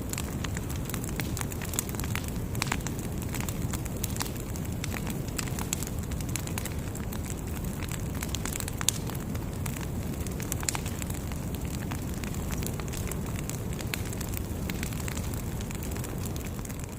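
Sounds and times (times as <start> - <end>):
bonfire flames rushing: 0.0 - 16.9
fire pops and crackles: 0.0 - 16.9.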